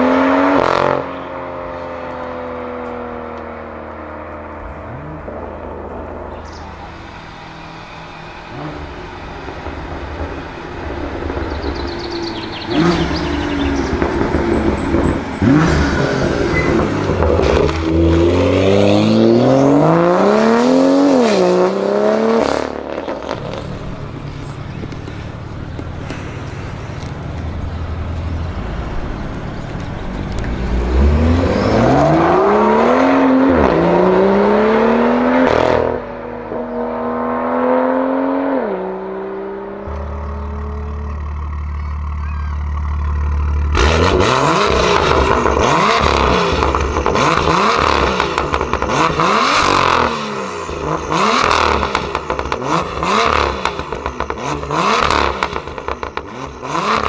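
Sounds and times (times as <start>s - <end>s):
car engine accelerating and revving: 0.0s - 57.0s.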